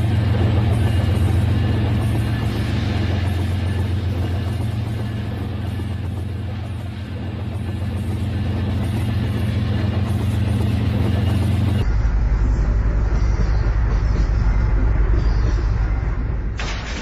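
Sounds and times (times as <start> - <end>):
wheels rattling on rails: 0.0 - 15.9.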